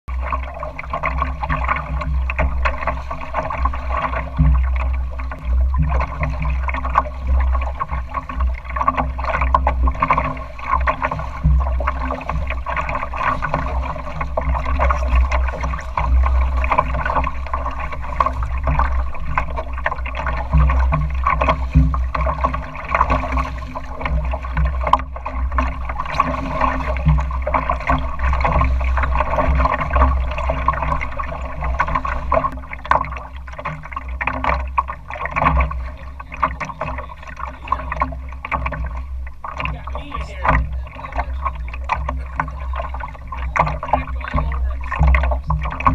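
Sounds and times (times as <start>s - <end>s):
water splashing against hull: 0.0s - 45.9s
steady low rumble: 0.1s - 45.9s.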